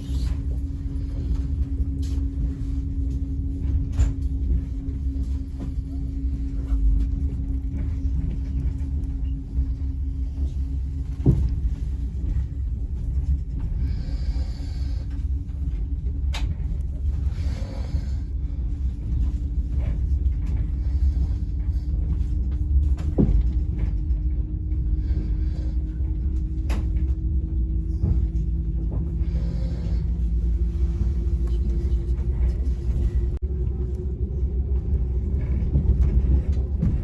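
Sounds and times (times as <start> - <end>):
moving train rumble: 0.0 - 37.0.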